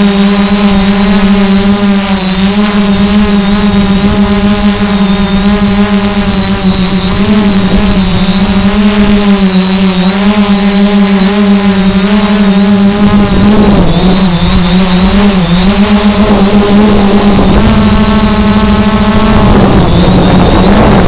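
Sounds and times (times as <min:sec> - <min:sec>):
drone propellers humming: 0:00.0 - 0:21.0
high motor whine: 0:00.0 - 0:21.0.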